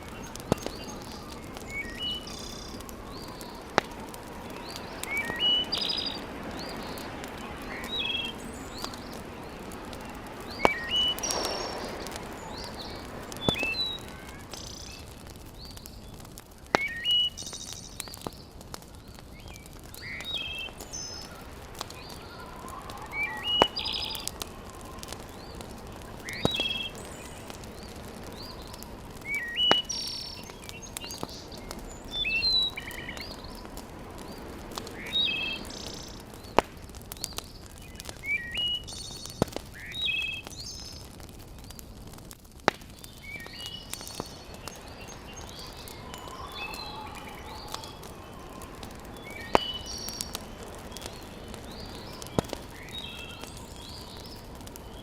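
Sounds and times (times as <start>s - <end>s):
birds chirping: 0.0s - 42.2s, 42.9s - 55.0s
burning logs popping: 0.0s - 55.0s
wood fire hissing: 0.0s - 55.0s.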